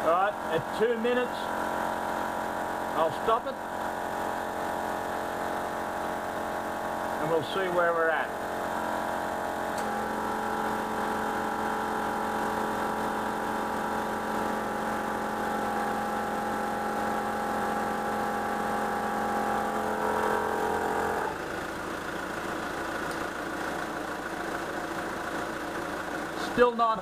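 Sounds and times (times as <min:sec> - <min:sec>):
air compressor whining: 0:00.0 - 0:27.0
diesel engine idling: 0:00.0 - 0:27.0.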